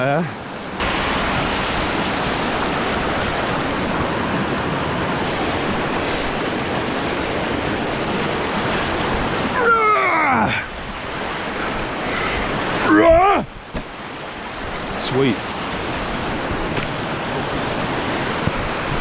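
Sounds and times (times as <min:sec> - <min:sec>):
mountain stream and waterfall rushing: 0:00.0 - 0:19.0.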